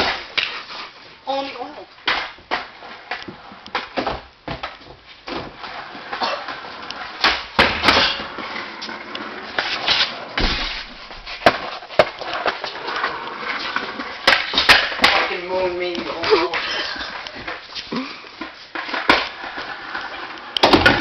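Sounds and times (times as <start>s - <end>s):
skateboard clacking on floor: 0.0s - 0.7s, 2.0s - 21.0s
skateboard rolling on hard floor: 0.0s - 1.4s, 2.0s - 21.0s.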